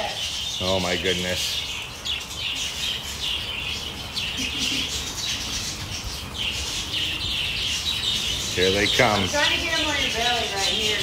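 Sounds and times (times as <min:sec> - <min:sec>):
budgies chattering: 0:00.0 - 0:11.0.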